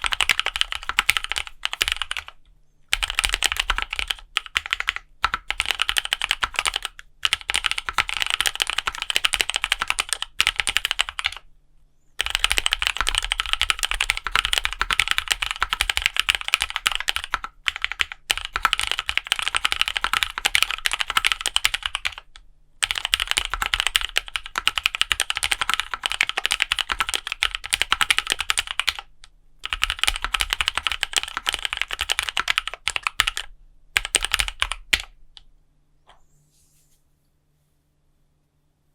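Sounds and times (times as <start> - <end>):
fast typing on mechanical keyboard: 0.0 - 11.4, 12.2 - 35.2.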